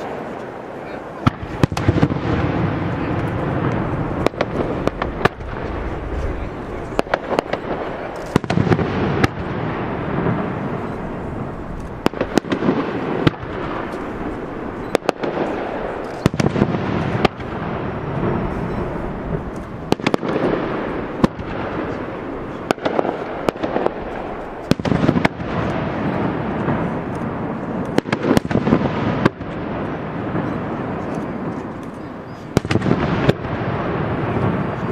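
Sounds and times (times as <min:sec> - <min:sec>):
firework cracks: 0:00.0 - 0:34.9
rumble of firework bursts: 0:00.0 - 0:34.9.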